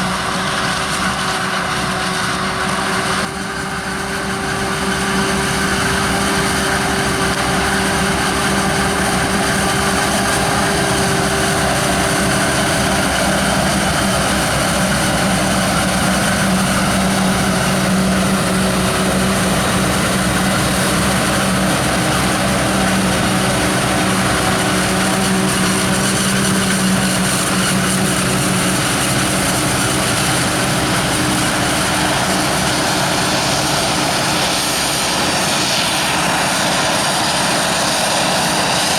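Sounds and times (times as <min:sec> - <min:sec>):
machinery engines droning: 0:00.0 - 0:38.9.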